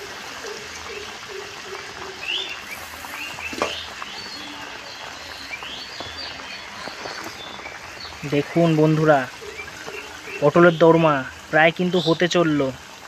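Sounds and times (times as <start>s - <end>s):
birds chirping: 0.0s - 13.0s
gravy bubbling in a pan: 0.0s - 13.0s.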